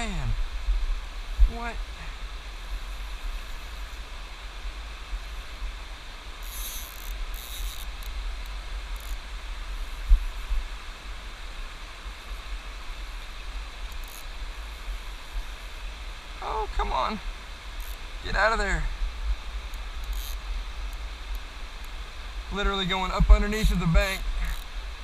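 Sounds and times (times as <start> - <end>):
river water rushing: 0.0 - 25.0
wind rumble on microphone: 0.0 - 25.0.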